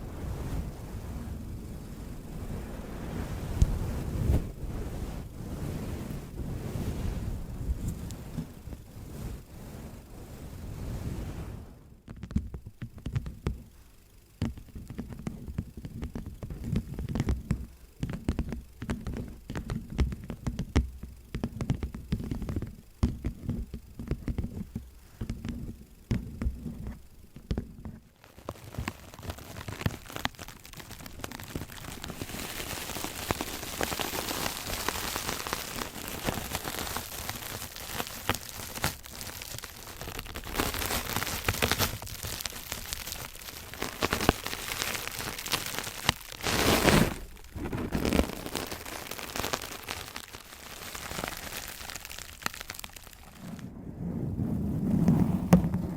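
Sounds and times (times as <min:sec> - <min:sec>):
crackly rustling hiss: 0:00.0 - 0:55.9.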